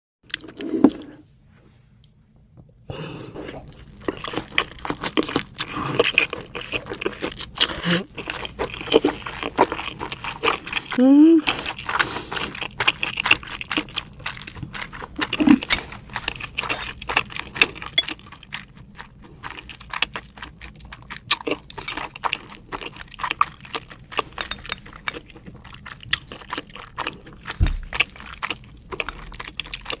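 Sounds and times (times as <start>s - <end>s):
chewing and mouth sounds: 3.1s - 30.0s.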